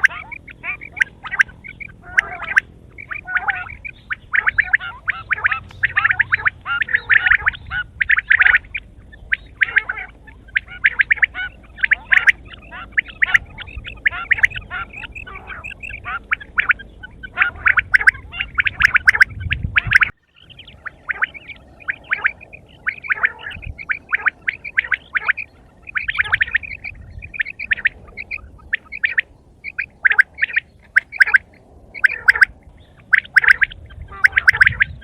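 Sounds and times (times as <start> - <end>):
quail chattering calls: 0.0 - 35.0.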